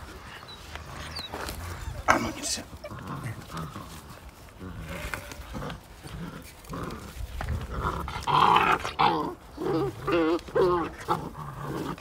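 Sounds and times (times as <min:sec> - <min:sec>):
puppies growling: 0:00.0 - 0:12.0.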